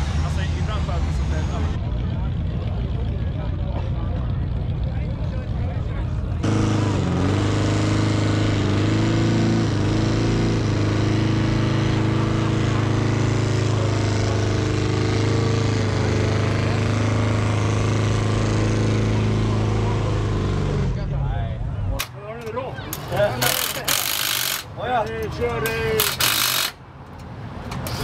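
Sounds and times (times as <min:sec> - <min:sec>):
vehicle engine idling: 0:00.0 - 0:08.8, 0:10.6 - 0:28.0.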